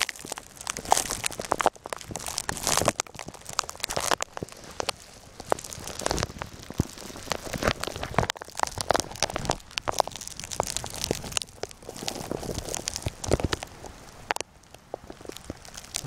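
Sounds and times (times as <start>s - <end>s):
footsteps crunching through snow: 0.0s - 13.9s.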